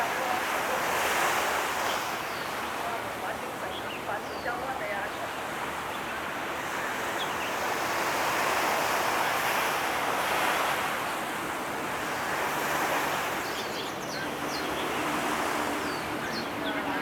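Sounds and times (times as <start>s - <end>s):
waves rushing: 0.0s - 17.0s
wind: 0.0s - 17.0s.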